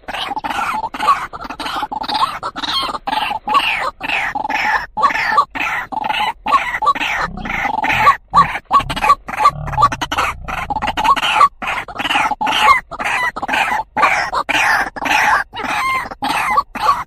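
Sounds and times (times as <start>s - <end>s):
waterhen calling repeated notes: 0.0s - 17.0s.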